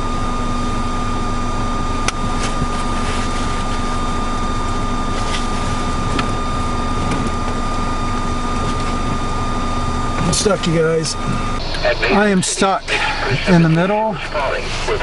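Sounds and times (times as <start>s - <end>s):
car idling with heater fan: 0.0s - 15.0s.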